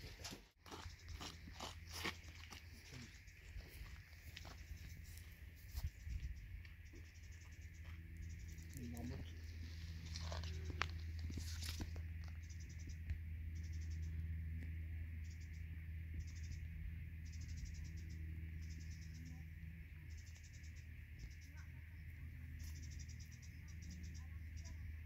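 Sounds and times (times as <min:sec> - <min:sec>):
low steady drone: 0:00.0 - 0:25.0
crickets chirping: 0:00.7 - 0:25.0.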